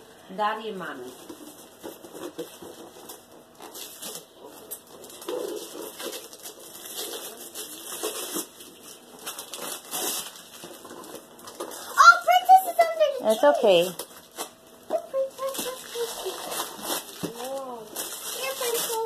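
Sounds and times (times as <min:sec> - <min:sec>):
wrapping paper tearing: 0:01.2 - 0:19.0.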